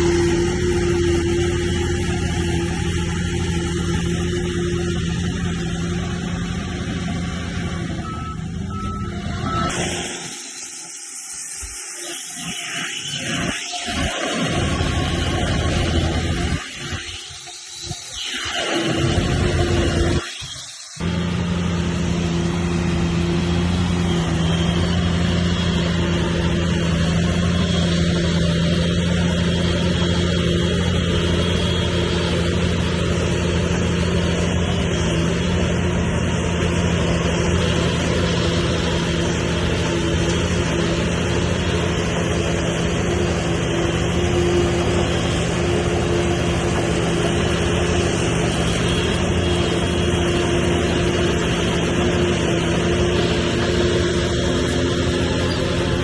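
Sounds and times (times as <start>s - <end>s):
diesel engine of heavy machinery: 0.0s - 56.0s.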